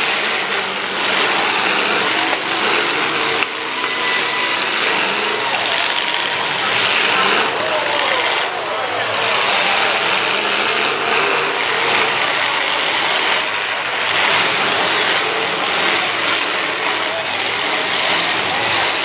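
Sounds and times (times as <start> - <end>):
car engines running hard: 0.0 - 19.0
wheels spinning in dirt: 0.0 - 19.0.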